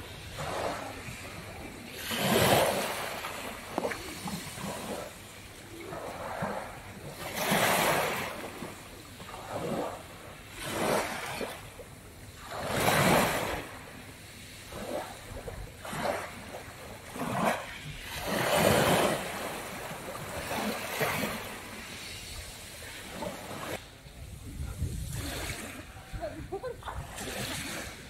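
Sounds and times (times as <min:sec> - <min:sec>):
waves washing on pebble beach: 0:00.0 - 0:28.0.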